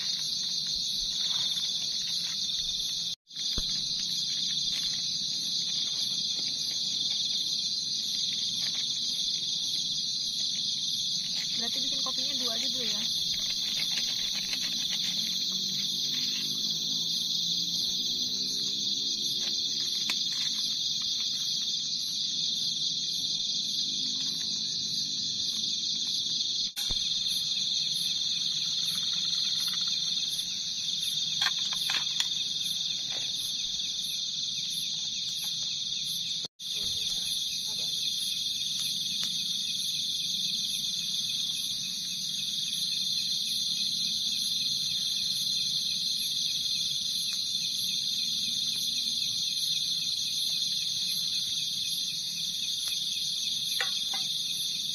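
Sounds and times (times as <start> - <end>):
crickets and insects buzzing: 0.0 - 54.9
pulsing insect trill: 0.0 - 54.9.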